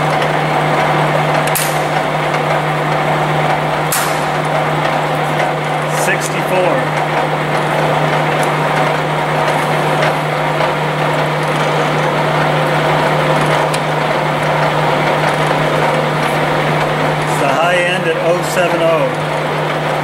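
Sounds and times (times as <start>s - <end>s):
surface grinder humming: 0.0s - 20.0s.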